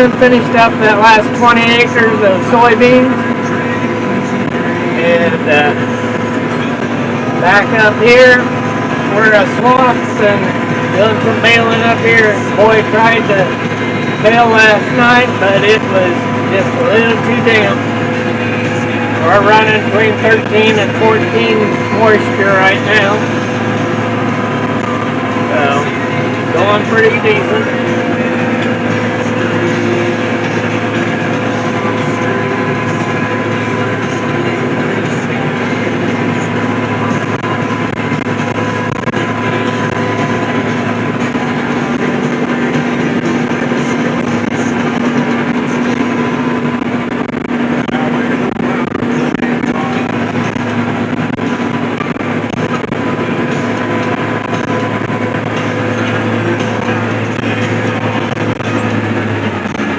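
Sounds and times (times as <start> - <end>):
tractor engine drone: 0.0 - 59.9.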